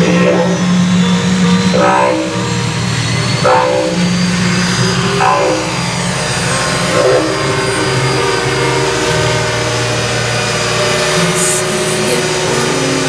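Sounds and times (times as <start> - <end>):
model helicopter rotors running: 0.0 - 13.0.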